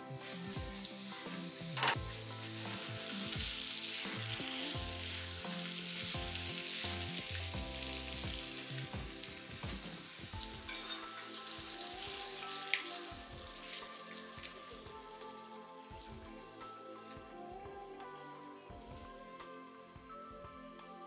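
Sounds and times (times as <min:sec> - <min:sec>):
food sizzling in hot oil: 0:00.0 - 0:17.2.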